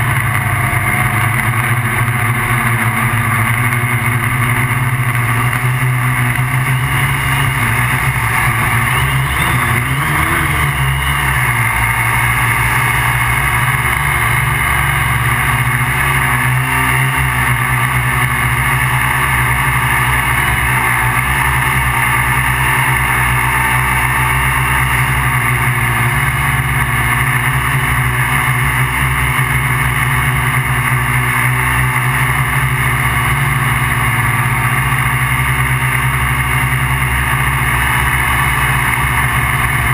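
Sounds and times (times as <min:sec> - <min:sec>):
drone motors and propellers droning: 0:00.0 - 0:39.9.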